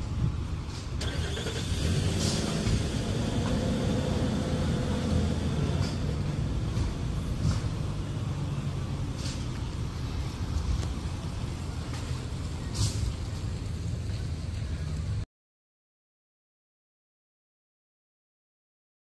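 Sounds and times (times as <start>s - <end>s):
vehicle low rumble: 0.0s - 15.3s.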